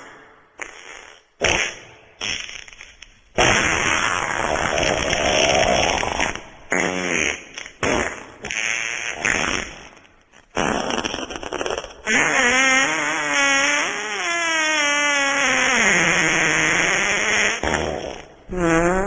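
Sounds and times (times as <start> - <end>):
wet farts: 0.6 - 19.0.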